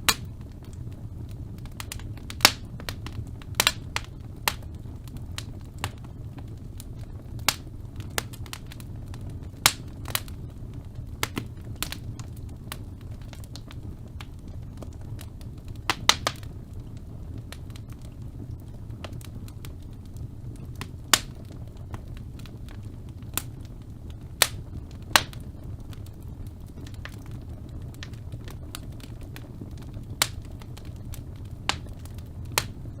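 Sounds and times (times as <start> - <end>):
fire crackling and popping: 0.0 - 33.0
fire flames rumbling: 0.0 - 33.0.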